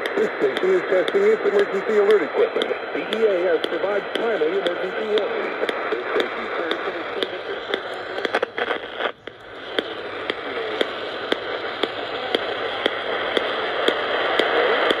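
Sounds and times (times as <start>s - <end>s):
faint radio voice: 0.0s - 15.0s
radio hiss and static: 0.0s - 15.0s
sharp regular clicks: 2.6s - 15.0s.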